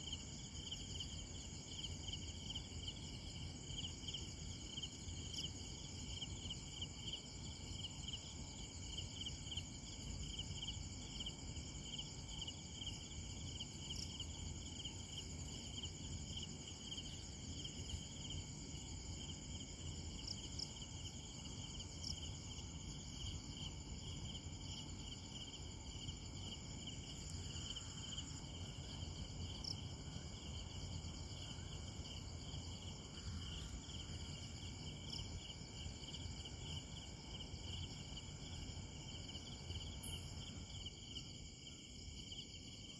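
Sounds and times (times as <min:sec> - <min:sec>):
crickets and insects trilling: 0:00.0 - 0:42.9.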